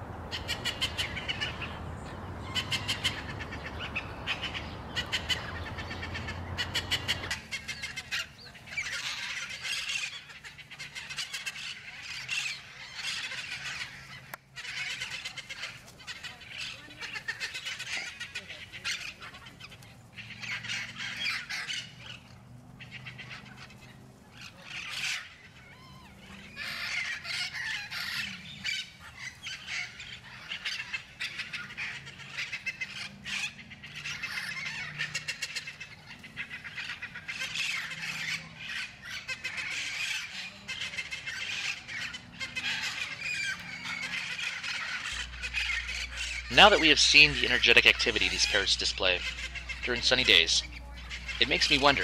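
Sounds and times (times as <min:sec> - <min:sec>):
parrots squawking: 0:00.2 - 0:52.0.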